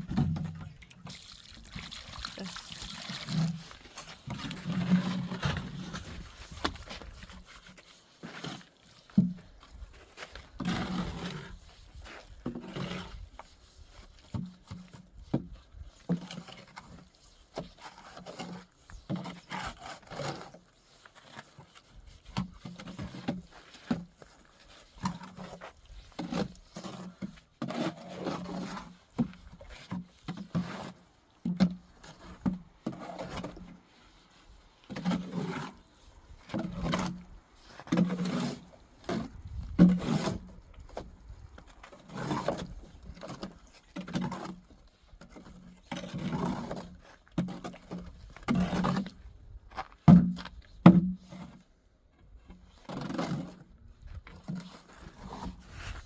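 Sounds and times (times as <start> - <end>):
scraping in sand and cement mix: 0.0 - 56.0.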